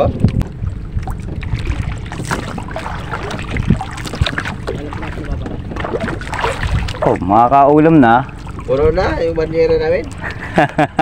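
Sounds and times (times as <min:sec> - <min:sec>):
water noise around boat: 0:00.0 - 0:11.0
wind: 0:00.0 - 0:11.0.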